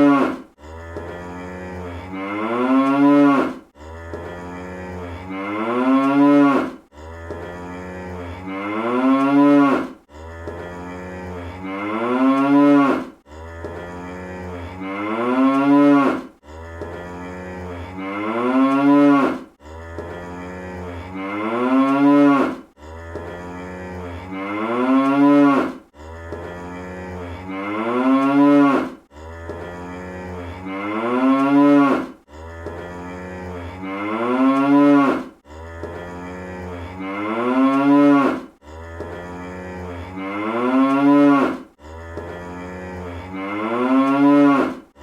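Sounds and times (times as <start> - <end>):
cartoon cow mooing: 0.0 - 45.0.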